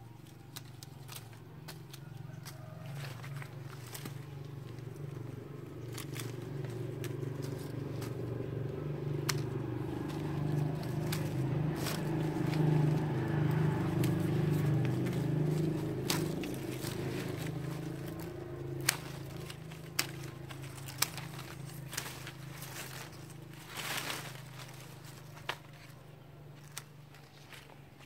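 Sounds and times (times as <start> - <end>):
pruning shears snipping branches: 0.0 - 28.0.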